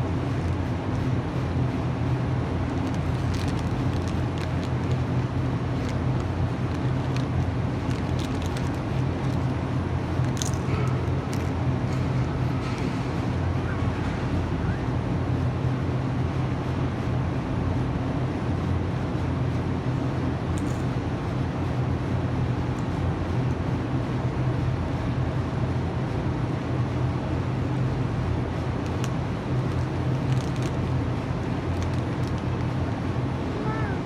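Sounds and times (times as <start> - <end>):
low rumble with hum: 0.0 - 34.0.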